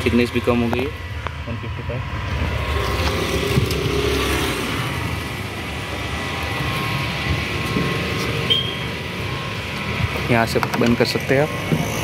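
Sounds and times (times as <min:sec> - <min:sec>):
motor vehicle rumble and hiss: 0:00.0 - 0:12.0.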